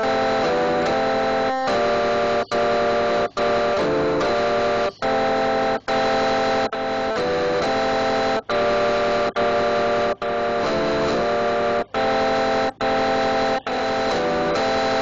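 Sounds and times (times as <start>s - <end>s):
loud buzzing drone chord: 0.0s - 15.0s.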